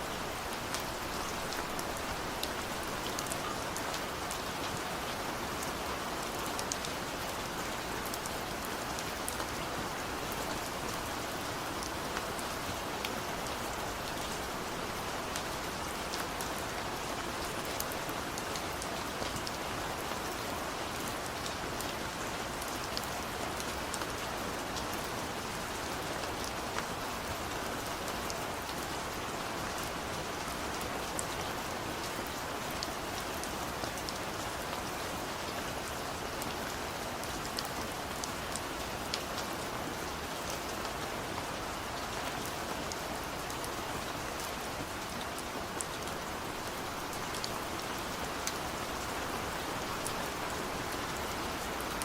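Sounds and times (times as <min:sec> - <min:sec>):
rain drops ticking: 0:00.0 - 0:20.4, 0:21.2 - 0:52.0
steady rain hiss: 0:00.0 - 0:52.0.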